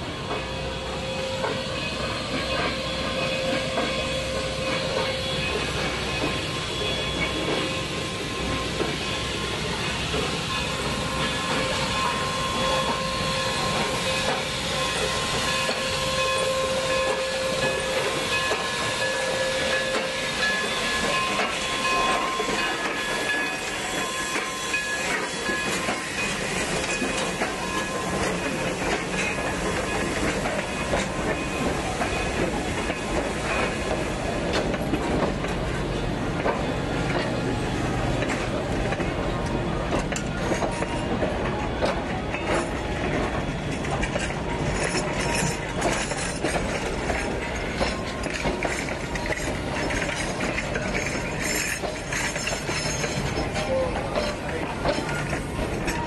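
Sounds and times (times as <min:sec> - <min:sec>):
steam train hissing steam: 0:00.0 - 0:56.0
train coaches rumbling by: 0:00.0 - 0:56.0.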